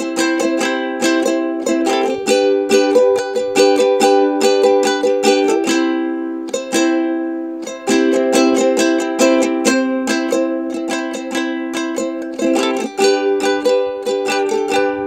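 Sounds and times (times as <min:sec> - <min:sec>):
ukulele strumming chords: 0:00.0 - 0:15.0.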